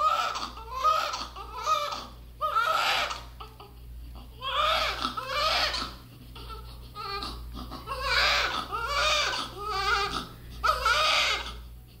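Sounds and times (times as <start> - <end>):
newborn baby crying: 0.0 - 11.6.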